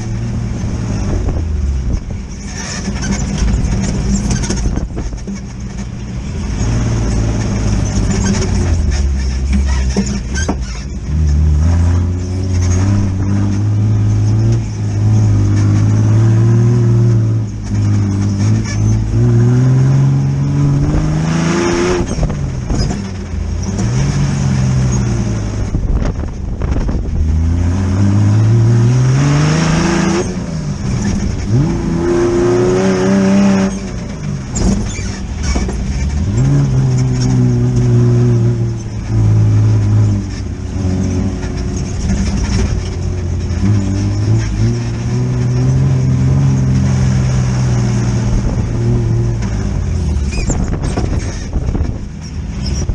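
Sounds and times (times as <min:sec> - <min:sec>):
buggy engine revving: 0:00.0 - 0:52.9.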